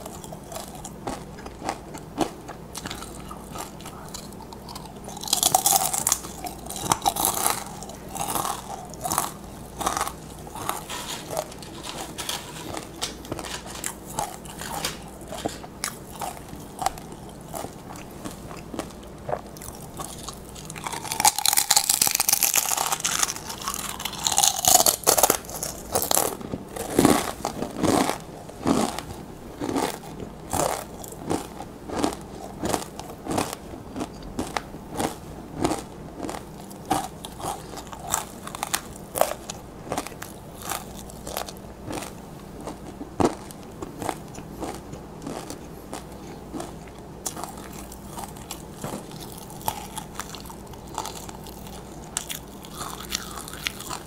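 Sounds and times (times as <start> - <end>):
chewing crunchy chips: 0.0 - 54.0.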